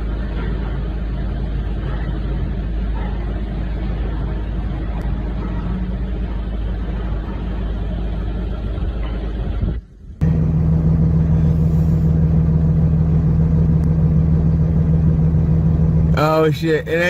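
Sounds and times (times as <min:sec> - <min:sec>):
engine humming drone: 0:00.0 - 0:17.0
heavy vehicle engine rumbling: 0:00.0 - 0:17.0.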